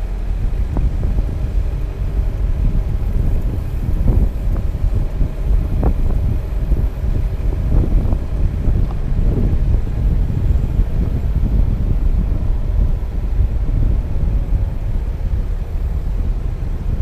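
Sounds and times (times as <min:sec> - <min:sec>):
vehicle driving rumble: 0:00.0 - 0:17.0
wind on microphone: 0:00.0 - 0:17.0.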